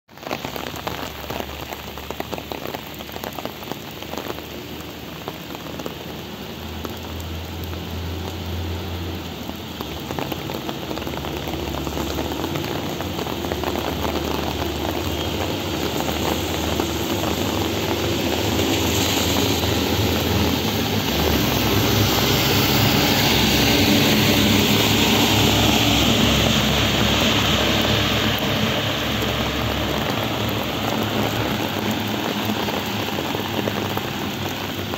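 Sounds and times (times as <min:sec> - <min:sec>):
heavy rain splashing on pavement: 0:00.1 - 0:34.9.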